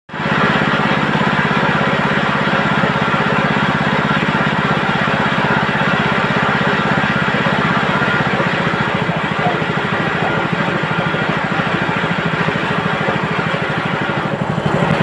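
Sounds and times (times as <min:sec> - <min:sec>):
chicken plucking machine running: 0:00.1 - 0:15.0.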